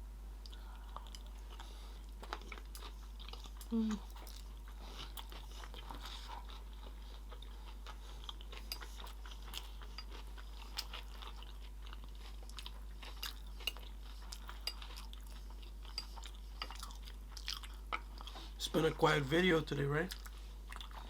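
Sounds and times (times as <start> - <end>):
crunchy chewing: 0.5 - 18.6, 20.1 - 21.0.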